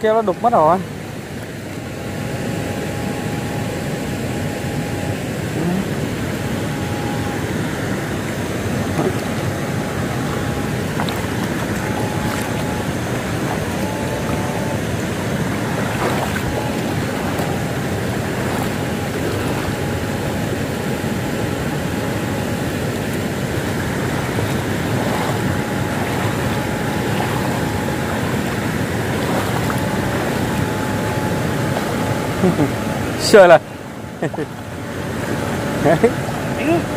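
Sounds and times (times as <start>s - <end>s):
stream rushing and splashing: 5.1s - 36.9s.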